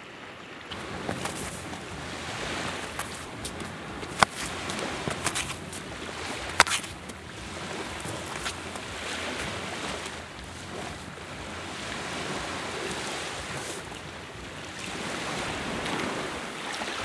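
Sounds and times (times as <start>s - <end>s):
sea surf: 0.0s - 17.0s.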